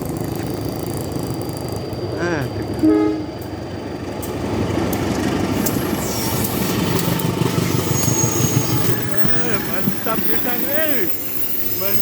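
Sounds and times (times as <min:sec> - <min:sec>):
train rumbling across steel bridge: 0:00.0 - 0:12.0.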